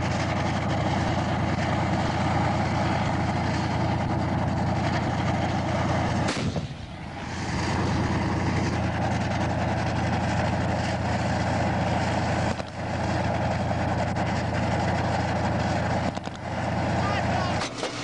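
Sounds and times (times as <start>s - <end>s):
diesel tank engine running: 0.0s - 18.0s.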